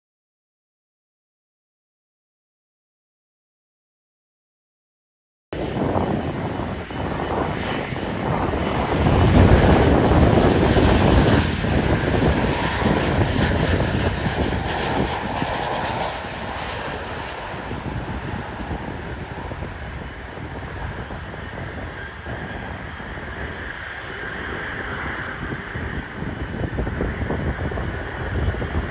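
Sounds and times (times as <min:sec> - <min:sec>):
jet engines passing: 0:05.6 - 0:28.9
wind buffeting microphone: 0:05.6 - 0:28.9.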